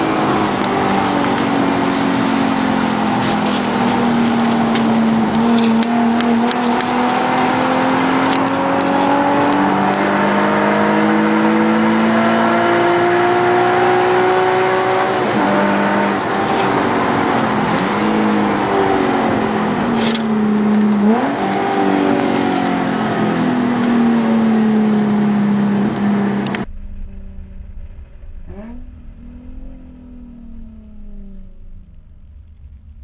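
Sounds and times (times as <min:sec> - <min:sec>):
car engine revving: 0:00.0 - 0:33.0
wind and road noise: 0:00.0 - 0:33.0.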